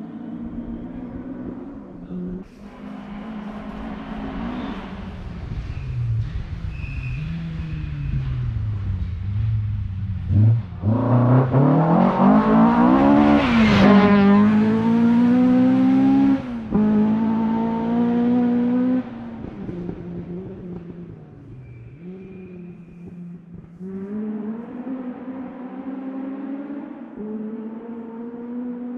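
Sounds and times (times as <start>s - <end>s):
rally car engine passing: 0.0s - 28.9s.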